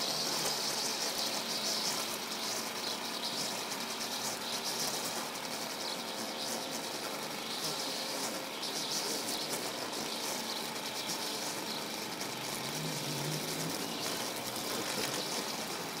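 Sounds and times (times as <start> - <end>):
string trimmer cutting weeds: 0.0 - 16.0.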